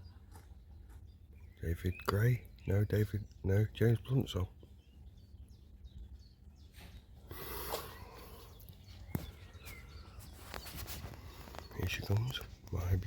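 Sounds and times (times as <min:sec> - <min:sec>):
bird chirp: 0:00.0 - 0:13.0.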